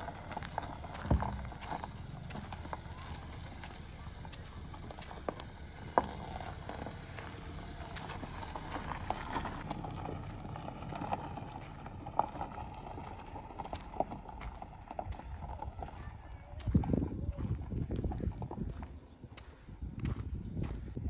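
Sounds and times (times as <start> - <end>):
footsteps crunching on gravel: 0.0 - 21.0.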